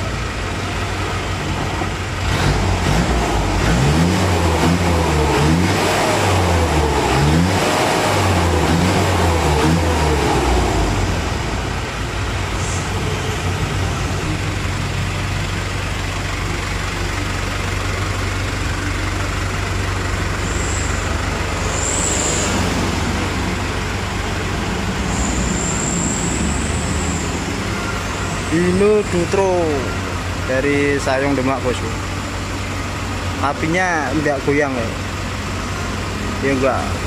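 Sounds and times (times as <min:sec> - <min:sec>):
diesel engine running at low revs: 0:00.0 - 0:37.0.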